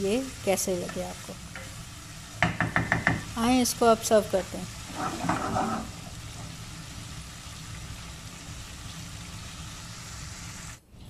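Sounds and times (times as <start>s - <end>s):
gravy sizzling in a wok: 0.0s - 10.8s.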